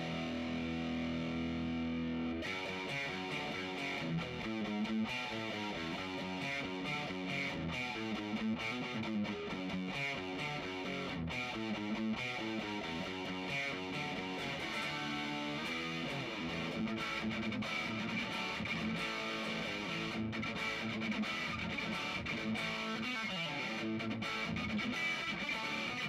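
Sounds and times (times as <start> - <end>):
distorted electric guitar riffing: 0.0 - 26.0.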